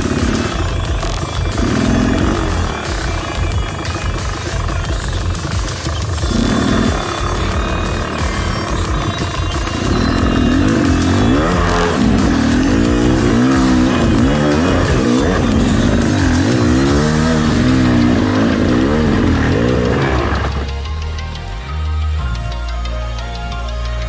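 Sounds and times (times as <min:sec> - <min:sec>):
dirt bike engine revving: 0:00.0 - 0:22.3.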